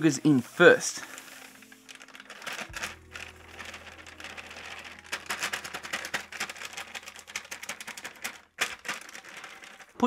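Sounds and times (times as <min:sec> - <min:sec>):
sugar pouring into metal pot: 0:00.0 - 0:10.0
plastic bag crinkling: 0:00.2 - 0:10.0.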